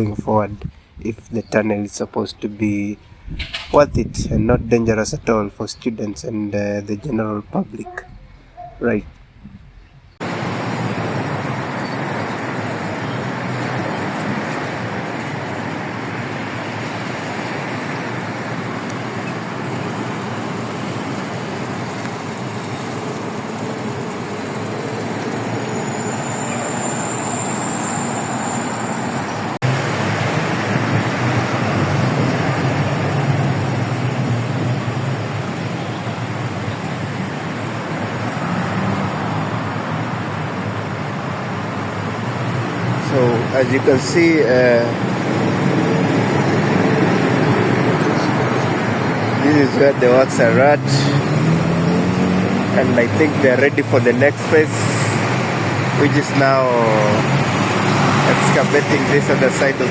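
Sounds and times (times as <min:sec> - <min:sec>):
highway traffic noise: 0:00.0 - 0:59.9
low traffic rumble: 0:00.0 - 0:59.9.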